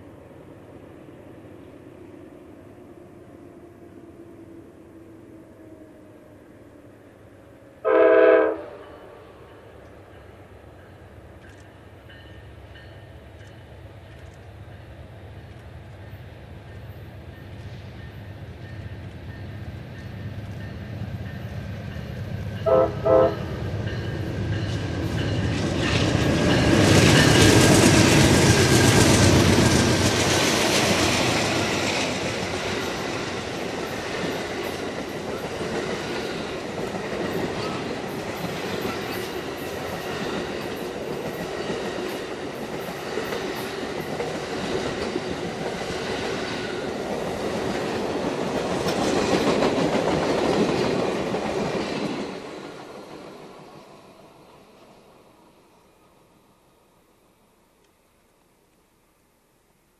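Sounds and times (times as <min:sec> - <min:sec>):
train wheels on rail: 0:00.0 - 0:56.8
diesel locomotives passing: 0:00.0 - 0:57.5.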